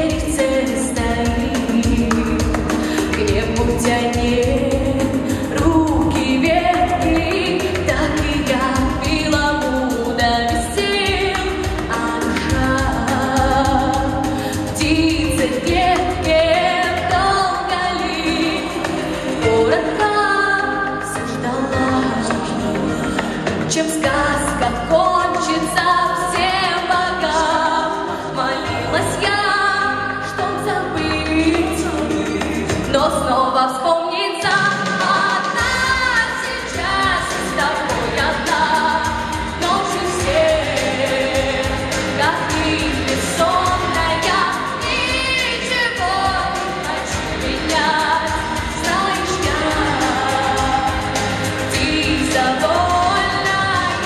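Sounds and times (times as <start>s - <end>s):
pop accompaniment with steady beat: 0.0s - 54.0s
woman singing into microphone: 0.0s - 54.0s.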